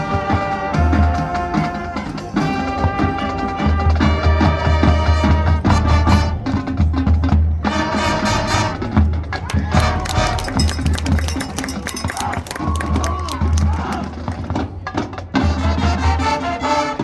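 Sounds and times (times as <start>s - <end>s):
drums and percussion: 0.0s - 17.0s
marching band playing: 0.0s - 17.0s.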